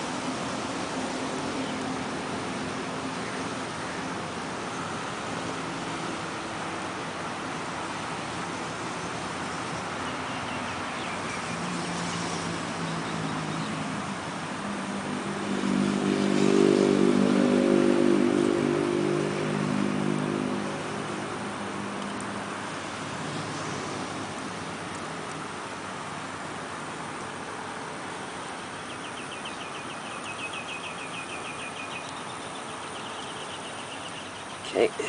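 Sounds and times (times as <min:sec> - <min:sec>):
engine hum: 0:00.0 - 0:35.0
steady background hiss: 0:00.0 - 0:35.0.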